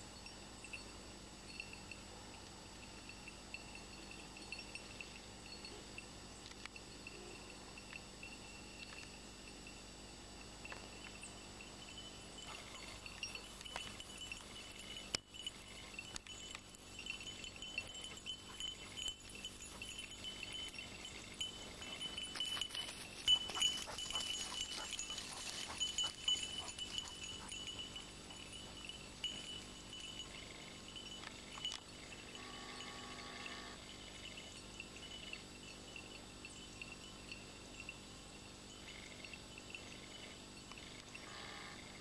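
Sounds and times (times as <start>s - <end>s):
dog collar bell tinkling: 0.2s - 41.4s.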